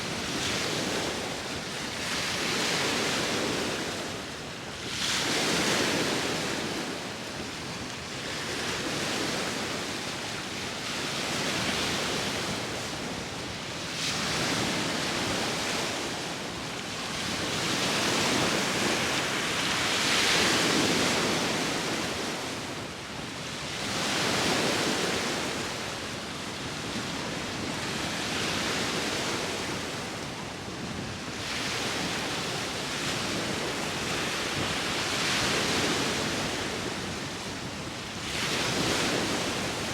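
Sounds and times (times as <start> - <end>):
sea waves washing onto shore: 0.0 - 39.9
wind blowing across microphone: 0.0 - 39.9.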